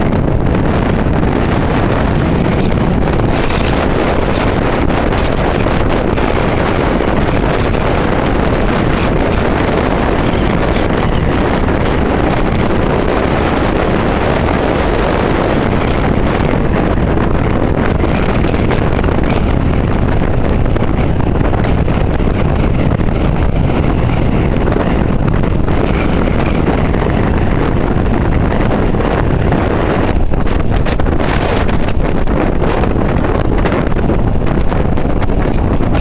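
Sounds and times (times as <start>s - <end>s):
waves surging onto shore: 0.0s - 36.0s
wind buffeting microphone: 0.0s - 36.0s.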